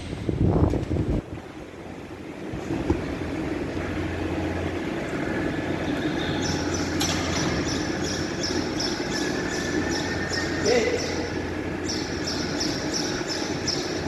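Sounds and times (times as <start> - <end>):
machinery low hum: 0.0 - 14.0.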